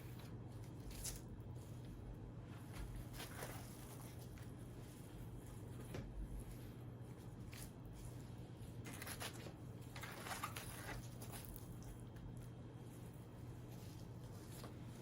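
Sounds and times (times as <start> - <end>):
food handling and eating noises: 0.0 - 15.0
steady low hum: 0.0 - 15.0.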